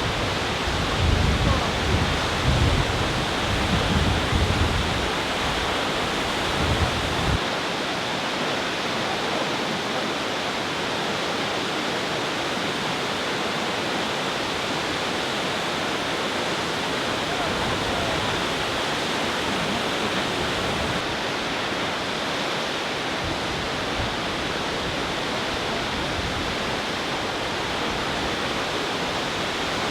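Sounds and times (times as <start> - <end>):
waterfall roaring: 0.0 - 29.9.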